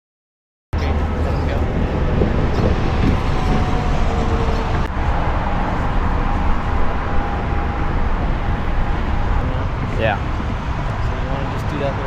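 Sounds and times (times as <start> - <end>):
low outdoor rumble: 0.8 - 12.0.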